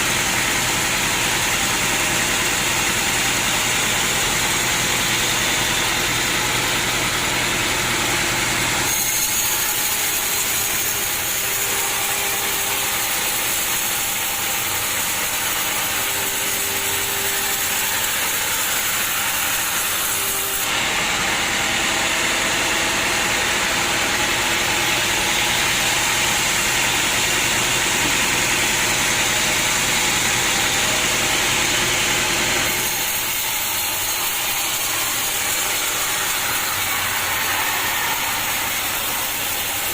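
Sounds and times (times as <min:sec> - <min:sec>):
sawmill machinery noise: 0:00.0 - 0:39.9.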